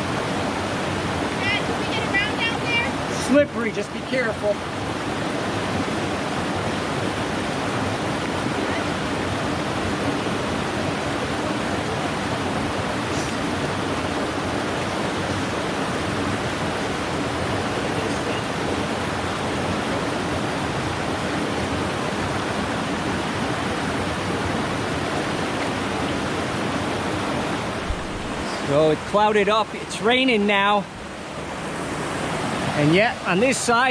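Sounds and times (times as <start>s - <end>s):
stream flowing over rocks: 0.0s - 33.9s.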